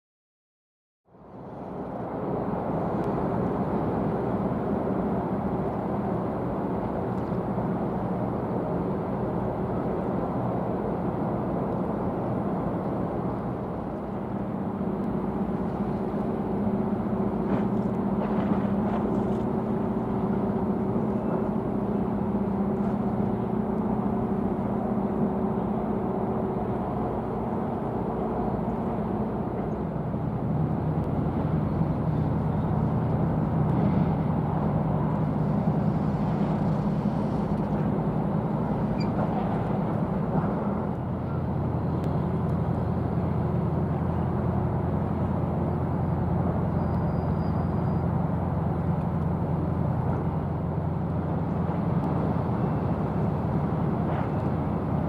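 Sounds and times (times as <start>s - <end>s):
engine drone: 1.1s - 55.0s.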